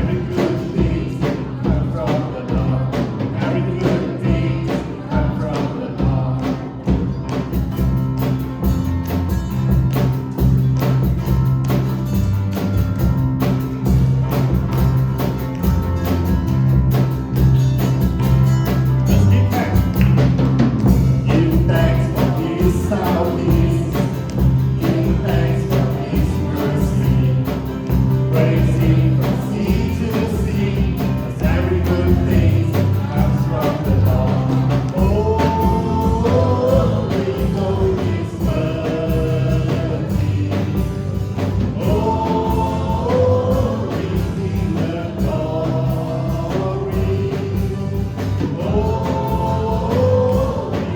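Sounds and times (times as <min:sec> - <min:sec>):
voices singing: 0:00.0 - 0:08.5, 0:13.4 - 0:50.9
held bass notes: 0:00.0 - 0:50.9
steady drum beat: 0:00.0 - 0:50.9
worship band music: 0:00.0 - 0:50.9.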